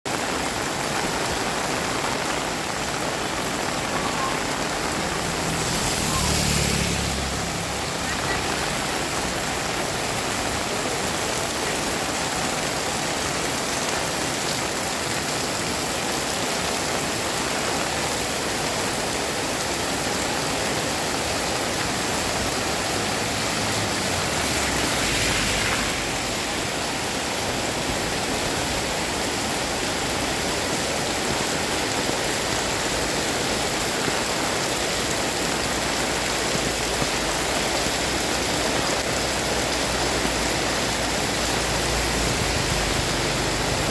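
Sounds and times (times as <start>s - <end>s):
heavy rain pouring: 0.1s - 43.9s.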